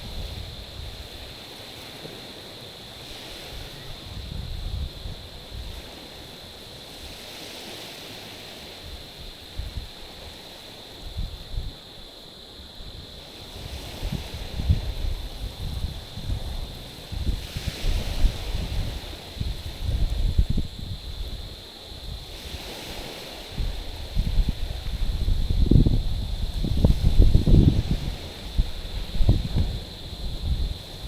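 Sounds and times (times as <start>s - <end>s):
wind buffeting microphone: 0.0s - 1.4s, 3.2s - 6.2s, 8.6s - 10.4s, 11.0s - 11.9s, 12.6s - 31.0s
waves washing on stony shore: 0.0s - 31.0s.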